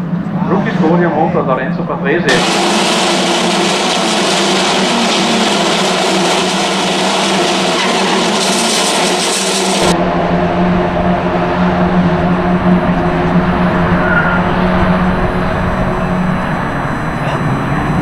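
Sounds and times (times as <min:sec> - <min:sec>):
deep engine drone: 0:00.0 - 0:18.0
race car engines: 0:00.0 - 0:18.0.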